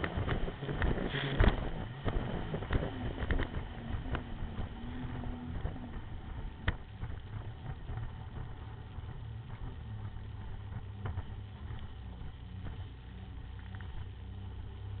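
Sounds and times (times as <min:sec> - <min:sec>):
wind noise: 0:00.0 - 0:14.9
water wash: 0:00.0 - 0:15.0
watercraft engine drone: 0:00.0 - 0:15.0.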